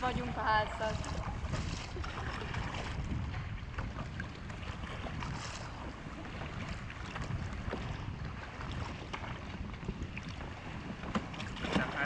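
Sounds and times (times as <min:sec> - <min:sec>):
paddle splashes: 0:00.0 - 0:12.0
water lapping and splashing: 0:00.0 - 0:12.0
wind rumbling on microphone: 0:00.0 - 0:12.0.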